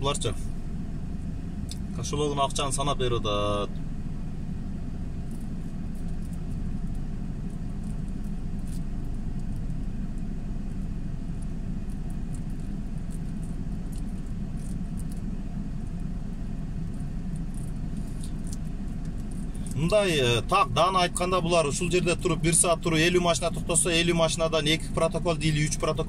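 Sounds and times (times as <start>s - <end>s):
motor vehicle rumble: 0.0s - 26.0s.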